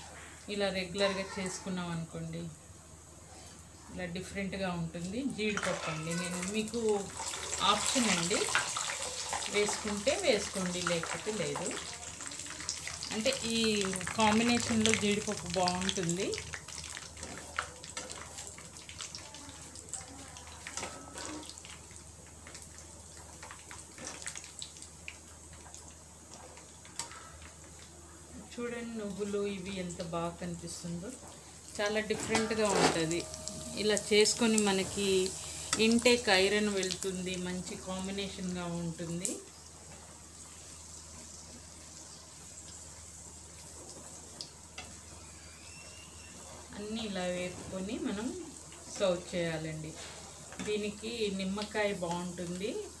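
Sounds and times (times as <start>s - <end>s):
oil sizzling in a pan: 4.8s - 53.0s.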